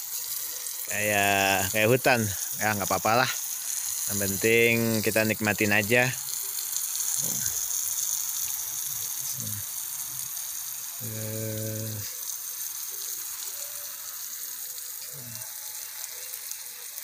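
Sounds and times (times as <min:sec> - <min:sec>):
hose spray hissing on plants: 0:00.0 - 0:17.0.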